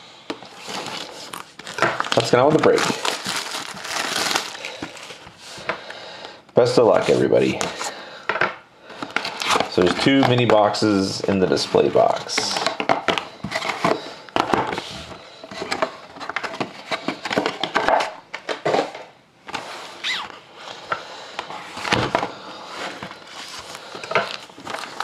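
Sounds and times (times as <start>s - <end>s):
cardboard and plastic wrap rustling: 0.3s - 5.7s, 9.0s - 20.4s, 21.5s - 25.0s.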